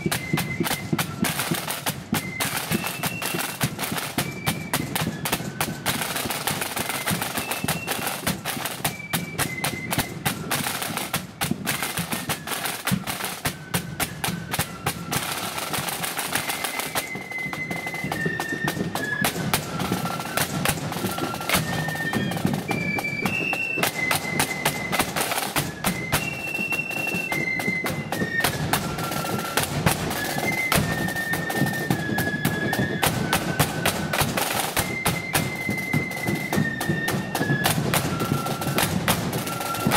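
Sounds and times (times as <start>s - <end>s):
flute melody: 0.0s - 39.9s
snare drums rattling: 0.0s - 39.9s.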